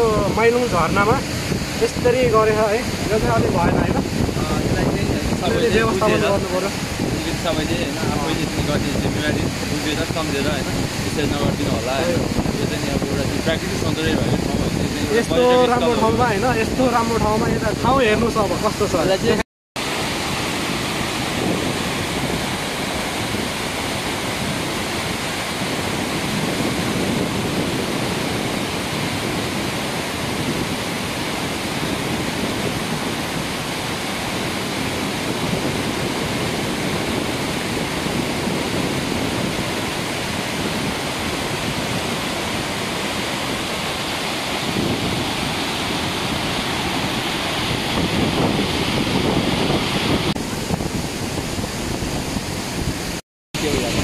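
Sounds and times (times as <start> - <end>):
waterfall crashing over rock: 0.0 - 54.0.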